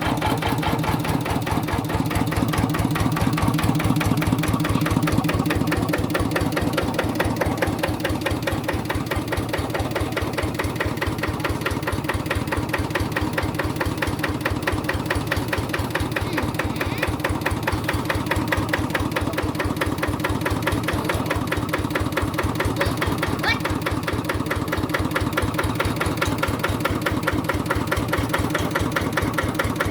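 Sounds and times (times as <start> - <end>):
diesel engine chugging: 0.0 - 29.9.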